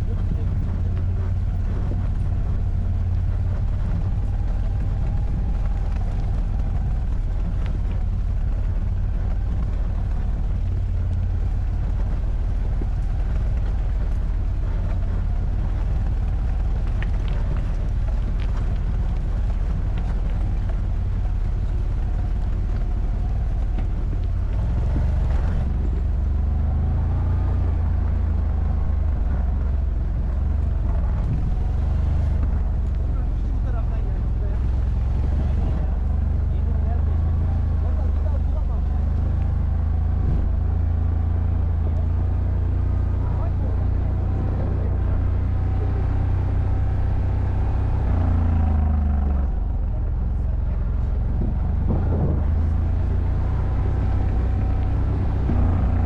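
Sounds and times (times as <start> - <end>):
atv engine revving: 0.0 - 56.0
wind rumble on microphone: 0.0 - 56.0.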